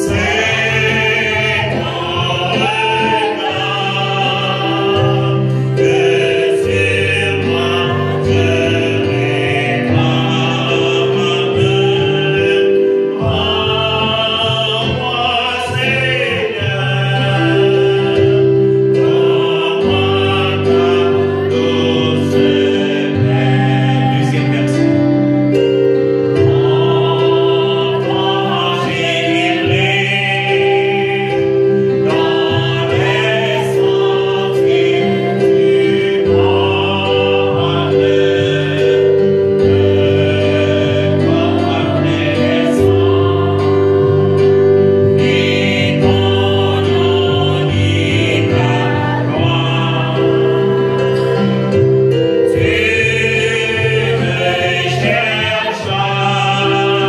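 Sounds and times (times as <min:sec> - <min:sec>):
congregation singing: 0:00.0 - 0:57.0
held accompaniment chords: 0:00.0 - 0:57.0
man singing hymn amplified: 0:00.0 - 0:57.0.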